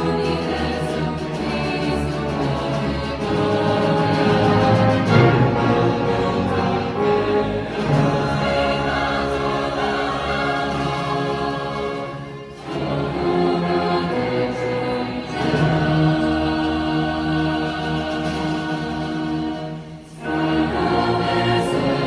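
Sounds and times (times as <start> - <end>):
choir singing with orchestra: 0.0 - 22.0.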